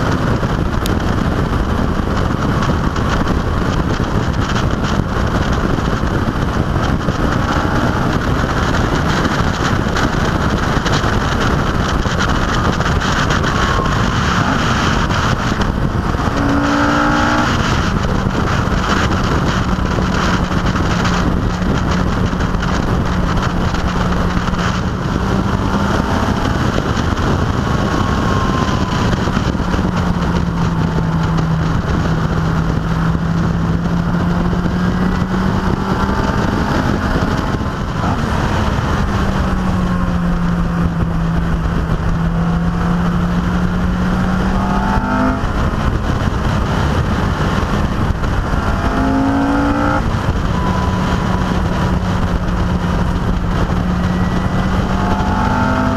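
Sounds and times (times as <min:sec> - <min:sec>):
car engine running: 0:00.0 - 0:55.9
wind and road noise: 0:00.0 - 0:55.9.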